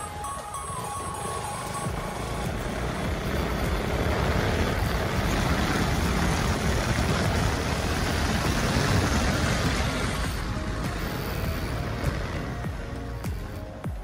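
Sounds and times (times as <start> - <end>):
motorcycle engine: 0.0 - 14.0
road noise: 0.0 - 14.0.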